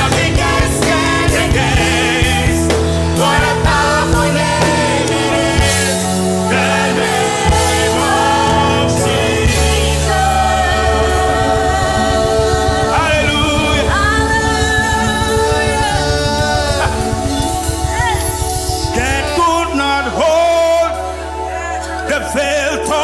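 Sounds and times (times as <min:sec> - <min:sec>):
instrumental backing: 0:00.0 - 0:23.0
voices singing gospel: 0:00.0 - 0:23.0.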